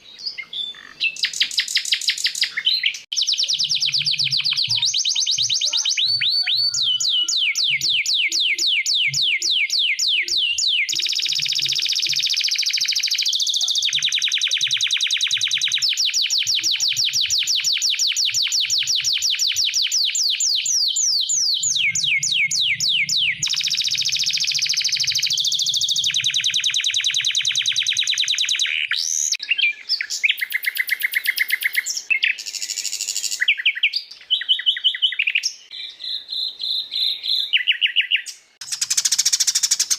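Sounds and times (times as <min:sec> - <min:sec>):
bird chirping phrases: 0:00.0 - 0:39.9
songbird trill: 0:00.0 - 0:39.9.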